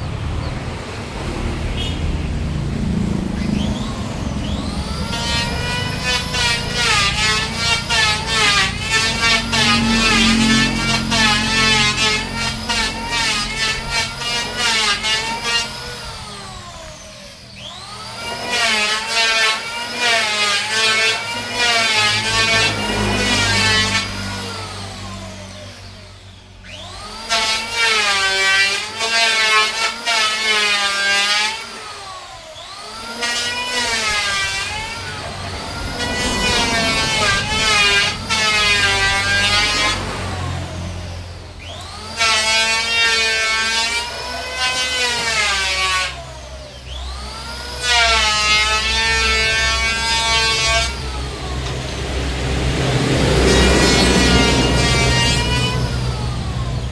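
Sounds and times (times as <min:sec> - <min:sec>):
power tool cutting wood: 0:00.0 - 0:56.9.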